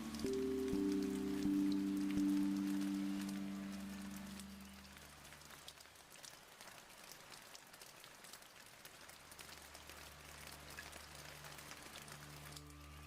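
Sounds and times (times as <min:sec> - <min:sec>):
faint rain: 0:00.0 - 0:13.0
patter of raindrops: 0:00.0 - 0:13.0.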